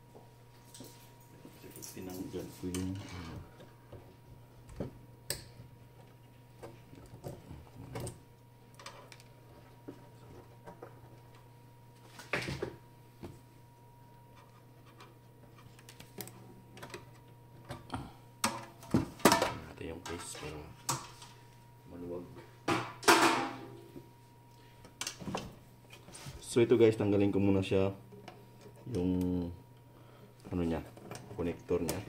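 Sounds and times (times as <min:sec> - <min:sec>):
faint electrical hum: 0:00.0 - 0:32.0.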